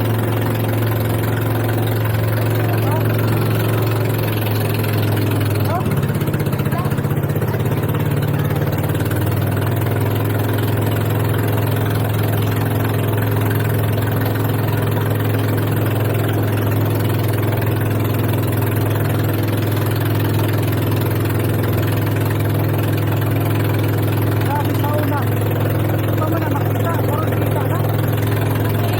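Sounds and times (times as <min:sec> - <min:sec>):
boat engine droning: 0:00.0 - 0:28.9.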